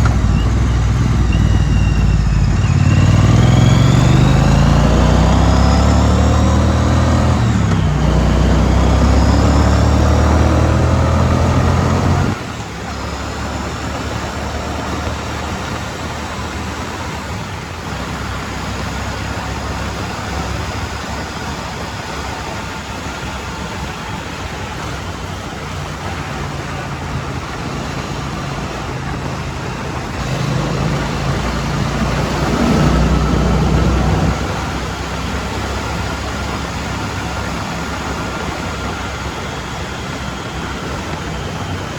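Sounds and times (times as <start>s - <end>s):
motorcycle engine under throttle: 0.0s - 41.9s
road and wind noise: 0.0s - 41.9s.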